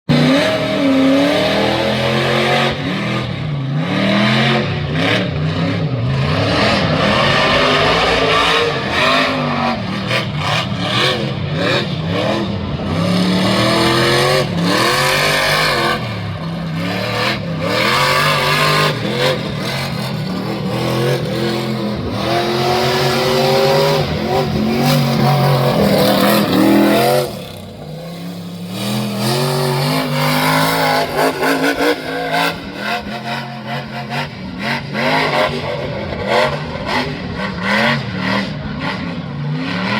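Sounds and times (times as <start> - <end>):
truck engine revving hard: 0.1 - 39.9.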